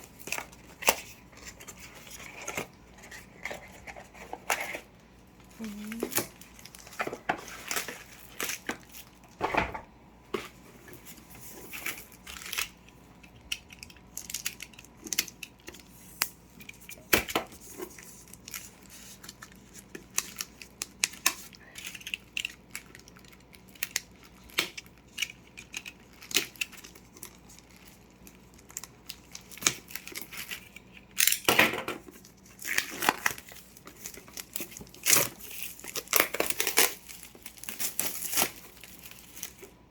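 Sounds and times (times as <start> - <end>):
plastic packaging crinkling: 0.0 - 31.4, 32.0 - 39.9.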